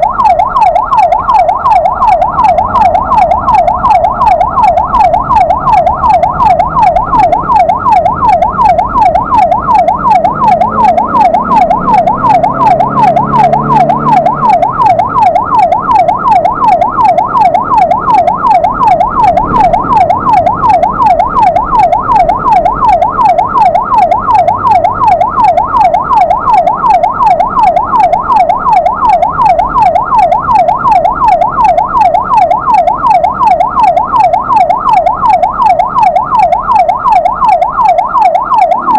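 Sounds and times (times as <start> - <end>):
ambulance siren yelping: 0.0 - 38.9.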